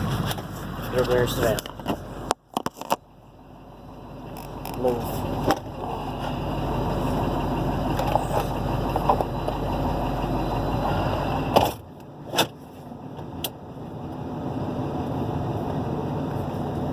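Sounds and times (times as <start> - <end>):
truck engine and road noise: 0.0 - 16.9.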